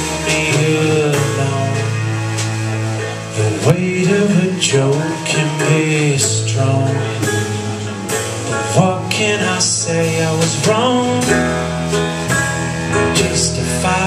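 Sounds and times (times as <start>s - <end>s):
person singing: 0.0s - 12.0s, 12.8s - 14.0s
guitar: 0.0s - 14.0s.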